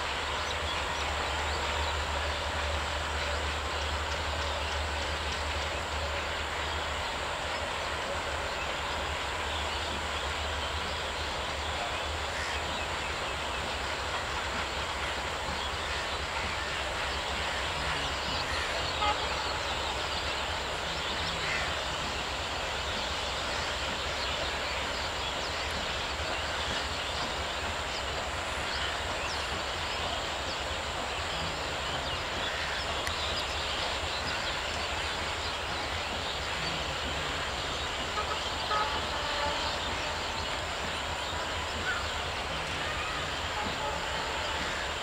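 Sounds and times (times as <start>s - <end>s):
train rumbling over tracks: 0.0s - 45.0s.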